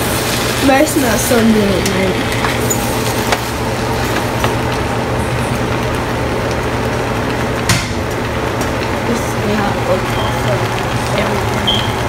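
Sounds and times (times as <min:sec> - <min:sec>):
steady kitchen hum and hiss: 0:00.0 - 0:12.0.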